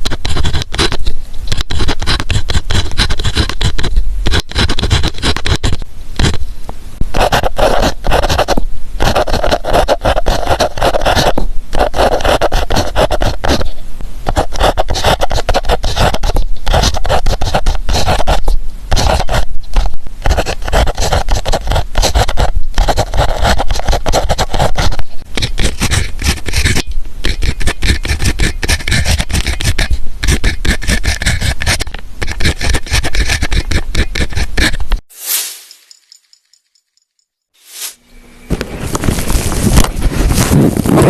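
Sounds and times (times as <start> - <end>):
pen scratching on paper: 0.0 - 6.4, 7.1 - 35.0.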